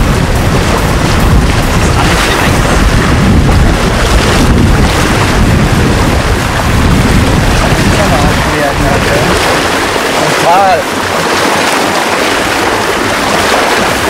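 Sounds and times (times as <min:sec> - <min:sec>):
river water rushing: 0:00.0 - 0:14.0
wind buffeting microphone: 0:00.0 - 0:14.0.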